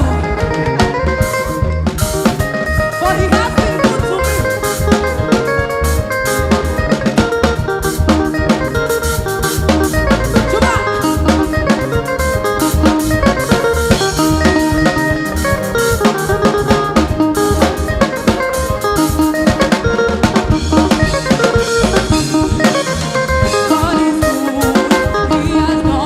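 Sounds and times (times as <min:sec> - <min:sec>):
snare and bass drum beat: 0:00.0 - 0:25.6
live gospel band music: 0:00.0 - 0:26.0.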